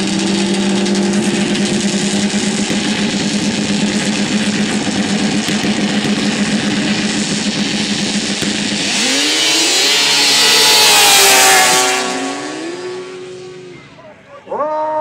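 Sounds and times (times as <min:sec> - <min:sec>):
snowmobile engines droning: 0:00.0 - 0:15.0.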